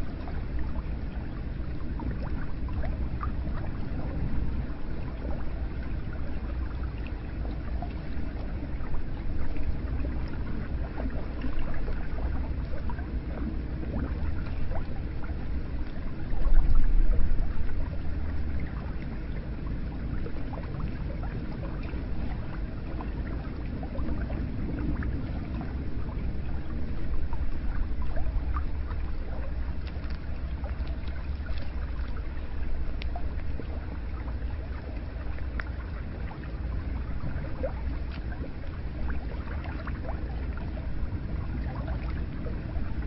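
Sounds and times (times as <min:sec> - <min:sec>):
low rumble: 0:00.0 - 0:43.0.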